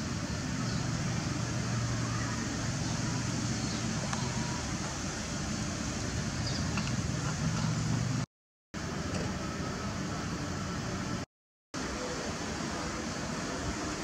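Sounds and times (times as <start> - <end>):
outdoor background hum: 0.0 - 14.0.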